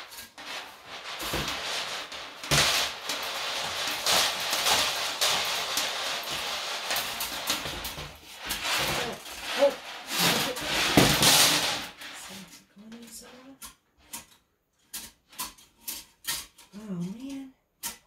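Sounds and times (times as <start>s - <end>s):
metal cable scraping in toilet: 0.0s - 18.0s.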